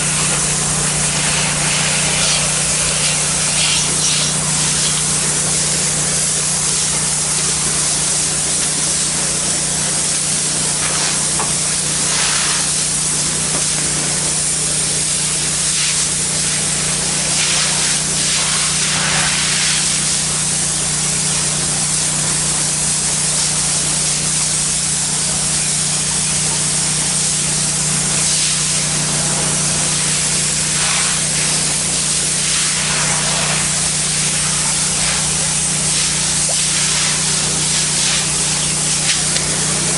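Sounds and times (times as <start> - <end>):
pressure washer spraying tile: 0.0 - 39.9.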